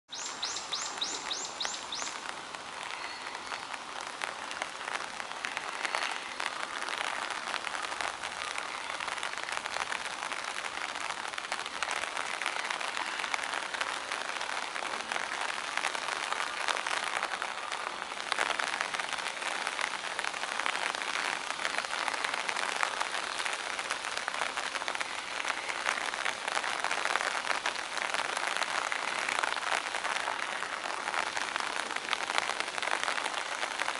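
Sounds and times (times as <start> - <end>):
rain pattering: 0.1 - 33.9.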